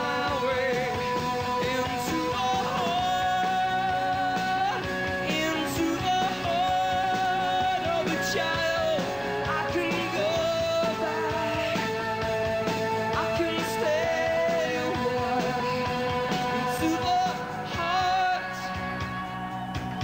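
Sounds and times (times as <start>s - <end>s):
man singing long notes: 0.0s - 12.2s, 13.1s - 18.8s
bass guitar: 0.0s - 20.0s
drums: 0.0s - 20.0s
electric guitar: 0.0s - 20.0s.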